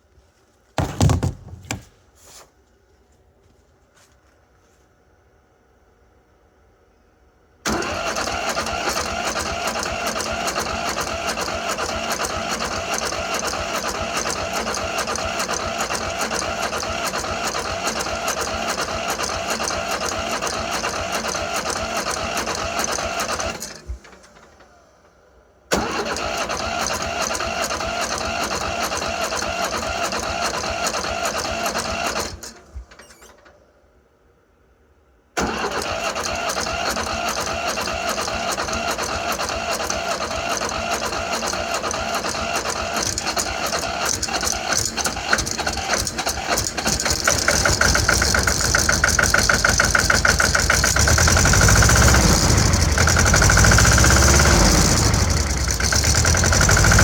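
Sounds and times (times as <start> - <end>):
starter motor cranking diesel engine: 7.7 - 33.6, 35.4 - 57.0.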